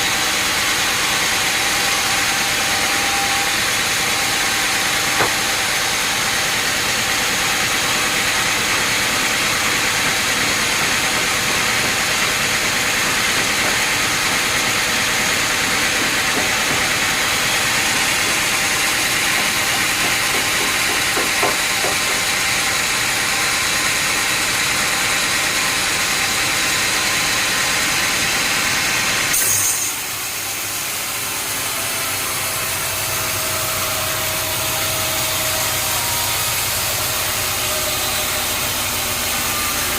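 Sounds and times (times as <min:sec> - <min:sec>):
sawmill machinery rushing with whine: 0:00.0 - 0:39.9.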